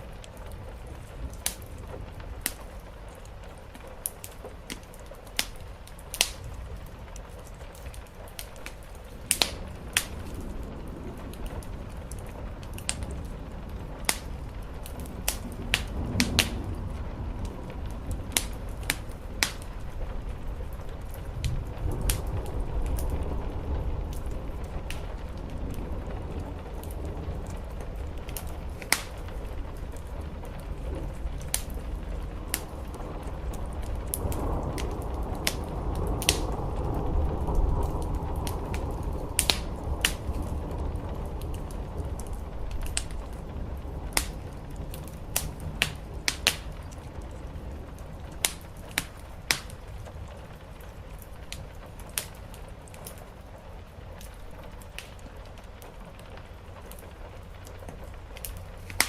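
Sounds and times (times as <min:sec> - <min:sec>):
rain on a roof: 0:00.0 - 0:59.0
wood fire crackling and popping: 0:00.0 - 0:59.0.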